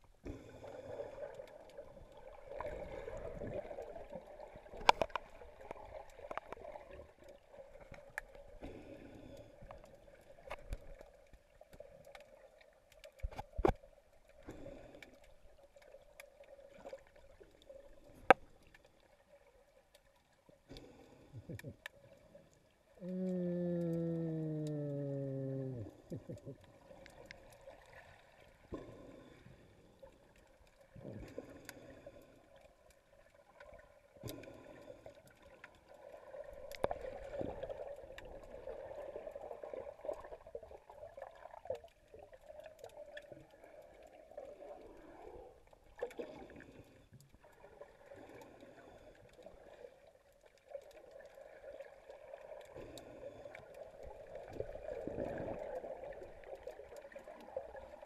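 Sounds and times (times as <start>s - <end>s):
muffled underwater swish and gurgle: 0.0s - 22.8s, 25.2s - 58.0s.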